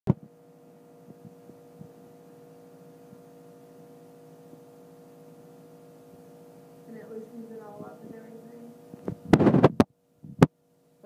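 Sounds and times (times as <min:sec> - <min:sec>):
nebulizer compressor humming: 0:00.1 - 0:11.0.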